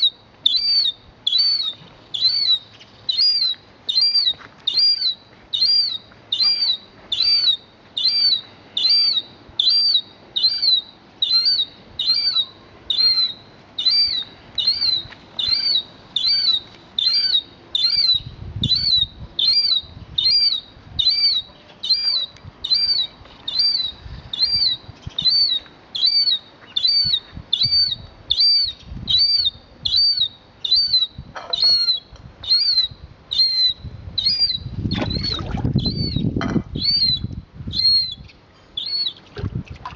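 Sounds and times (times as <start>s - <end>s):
bird calling: 0.0s - 39.4s.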